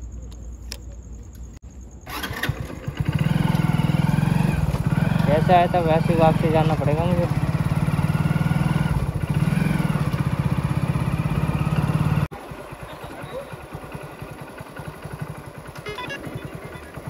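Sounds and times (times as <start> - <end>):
motorcycle engine running: 2.0 - 17.0.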